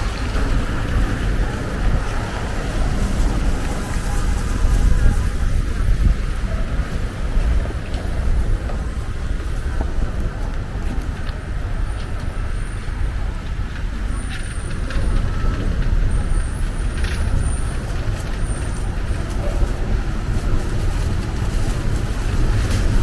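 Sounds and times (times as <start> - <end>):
city street traffic: 0.0 - 23.0
heavy vehicle rumbling: 0.0 - 23.0.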